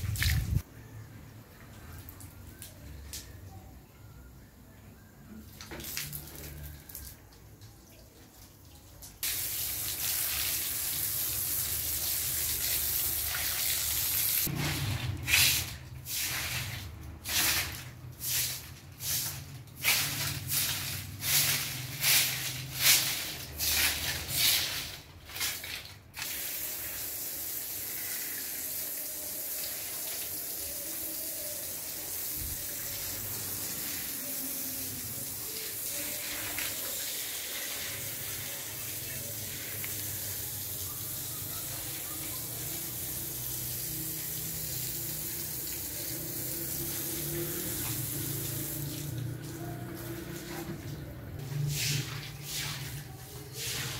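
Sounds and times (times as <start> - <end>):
garden hose spraying water: 0.0 - 0.7, 5.4 - 53.9.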